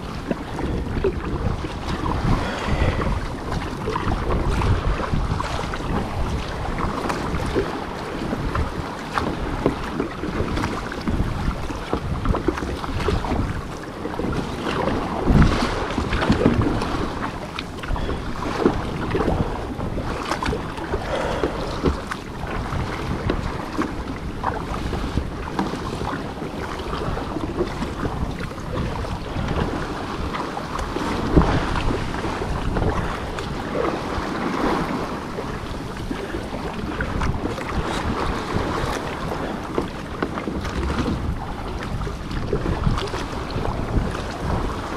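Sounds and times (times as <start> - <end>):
water slapping against kayak: 0.0 - 44.9
wind buffeting microphone: 0.0 - 44.9.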